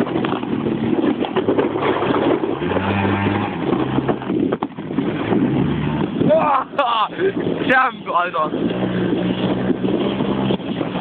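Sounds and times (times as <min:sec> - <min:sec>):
moped engine under load: 0:00.0 - 0:11.0
sled scraping over snow: 0:00.0 - 0:11.0.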